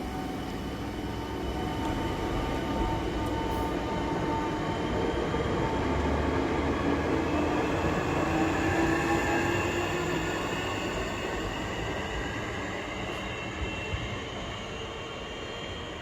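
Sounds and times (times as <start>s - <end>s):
electric train whine: 0.0s - 16.0s.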